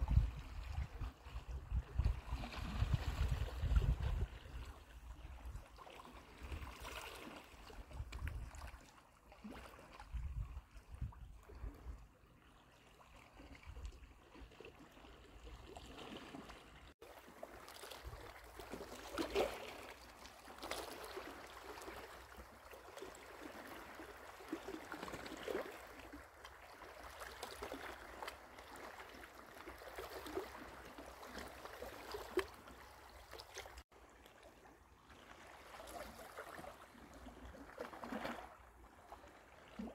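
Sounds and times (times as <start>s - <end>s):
waves lapping rocky shore: 0.0s - 10.1s, 14.3s - 39.9s.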